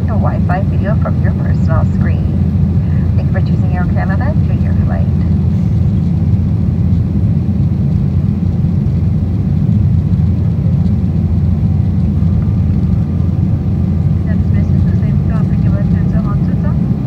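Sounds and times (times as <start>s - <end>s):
airflow over fuselage: 0.0s - 17.0s
airliner cabin engine rumble: 0.0s - 17.0s.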